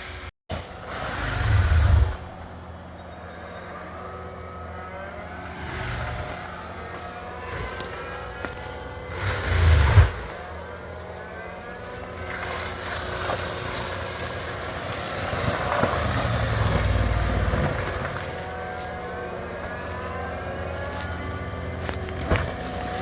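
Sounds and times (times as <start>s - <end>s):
skid steer mulcher engine: 0.0s - 23.0s.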